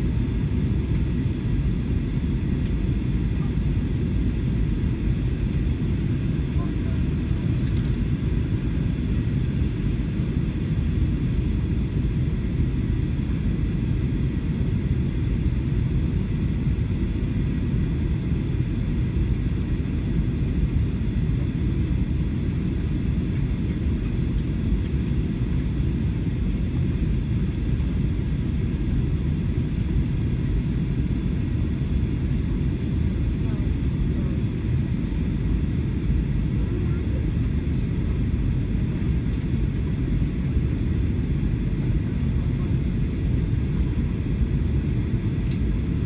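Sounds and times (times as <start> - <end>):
airplane cabin rumble: 0.0 - 46.0
faint steady whine: 0.0 - 46.0.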